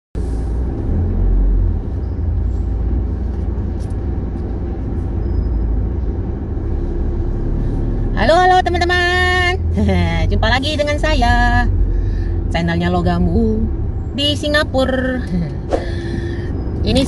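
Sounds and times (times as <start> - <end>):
car engine and tyre rumble: 0.2 - 17.0.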